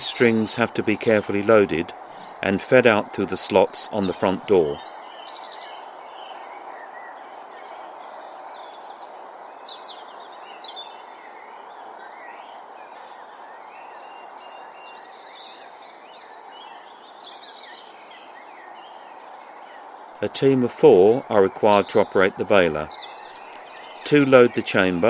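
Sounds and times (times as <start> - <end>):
small birds chirping: 0.0 - 25.0
steady background hiss: 0.0 - 25.0.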